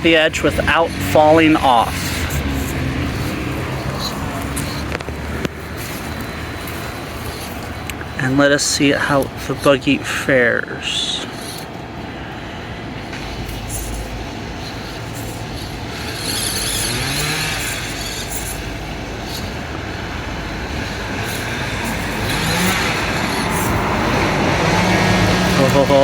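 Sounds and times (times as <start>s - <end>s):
electric motor and gear whine: 0.0s - 26.0s.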